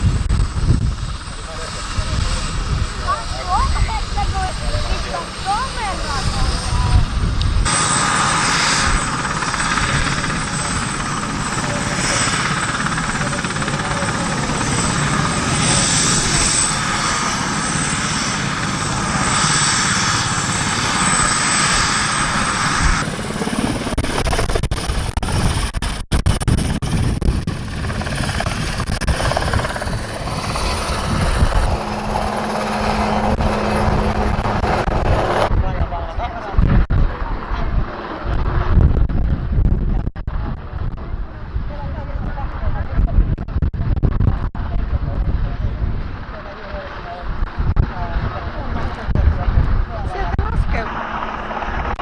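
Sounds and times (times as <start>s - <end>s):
helicopter rotor noise: 0.0s - 52.0s
helicopter turbine whine: 0.0s - 52.0s.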